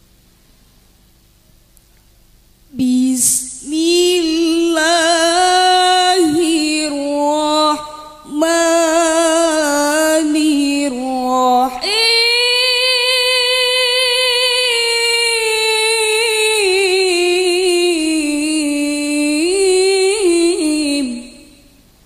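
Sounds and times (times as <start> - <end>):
woman chanting into a microphone: 2.7 - 21.6.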